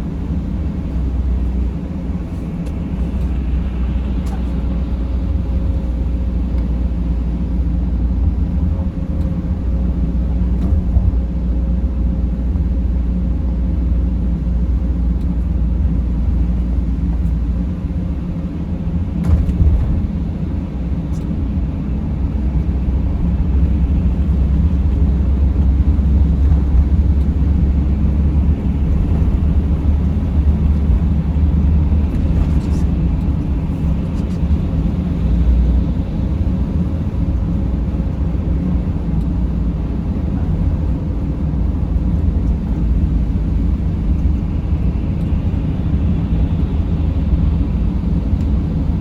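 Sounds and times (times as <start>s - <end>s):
van driving rumble: 0.0s - 49.0s.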